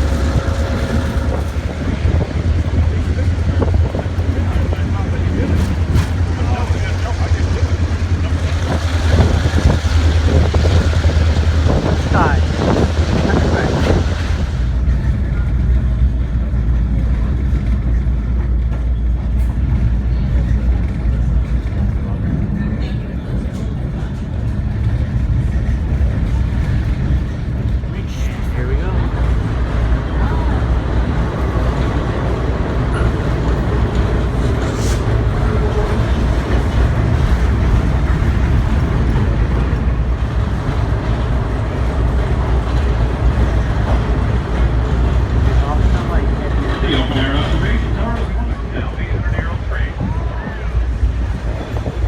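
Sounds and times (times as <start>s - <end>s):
moving train rumble: 0.0s - 52.0s.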